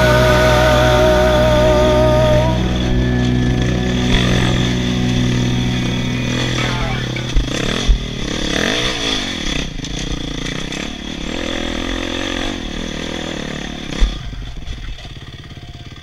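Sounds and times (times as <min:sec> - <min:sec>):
dirt bike engine revving: 0:00.0 - 0:16.0
engine idling: 0:00.0 - 0:16.0.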